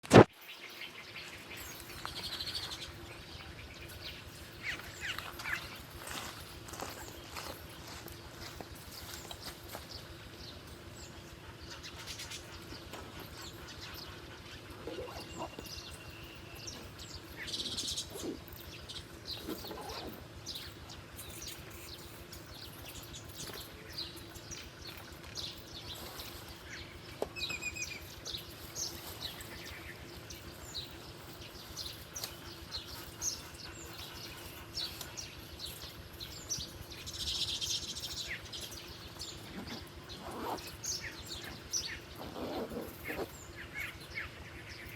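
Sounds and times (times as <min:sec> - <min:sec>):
birds chirping and calling: 0:00.1 - 0:44.9.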